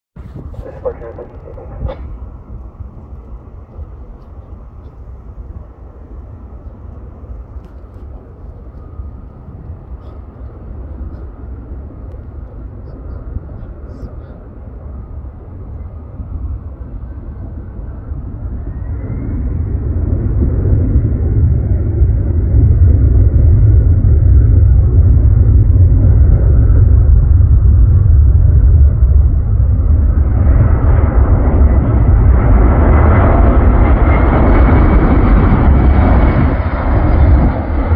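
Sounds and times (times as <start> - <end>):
distant jet airliner rumble: 0.2 - 37.9.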